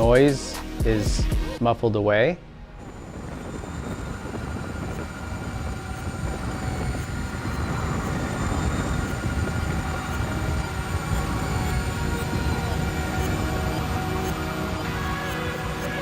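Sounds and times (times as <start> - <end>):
faint high whines: 2.7 - 16.0.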